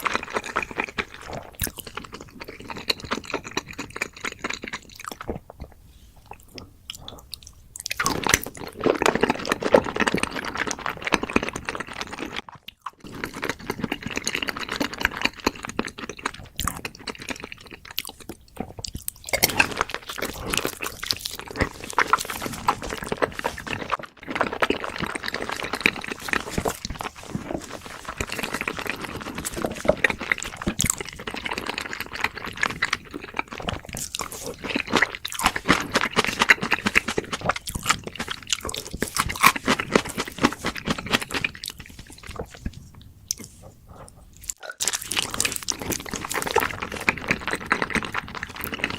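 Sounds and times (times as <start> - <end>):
person chewing and crunching: 0.0 - 48.9.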